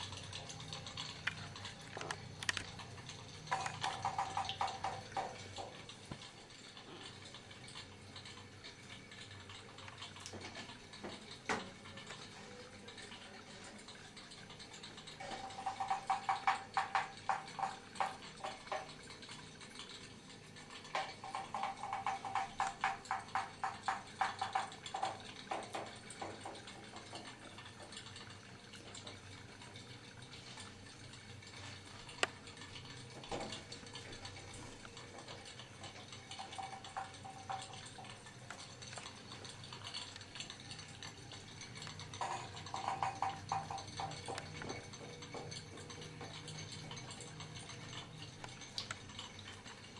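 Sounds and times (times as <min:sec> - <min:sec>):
toy steam boat engine ticking: 0:00.0 - 0:49.9.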